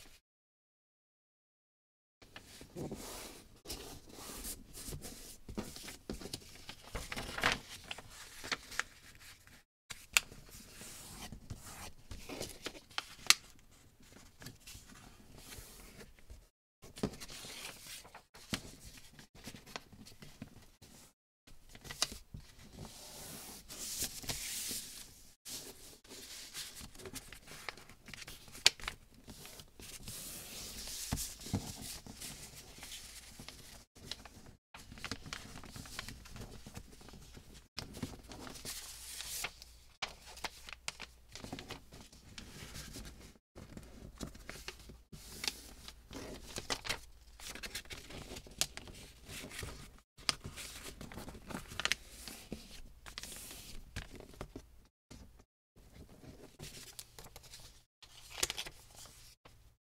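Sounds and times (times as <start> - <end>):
paper rustling and crinkling: 2.3 - 20.9, 21.6 - 54.6, 55.2 - 59.4.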